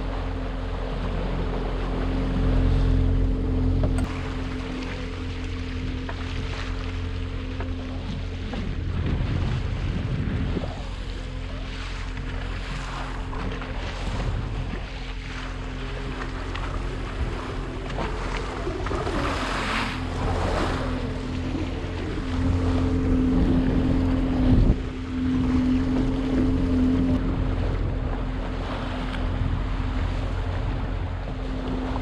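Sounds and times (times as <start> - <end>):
motor boat engine running: 0.0 - 32.0
water washing against hull: 0.0 - 32.0
wind on microphone: 0.0 - 32.0.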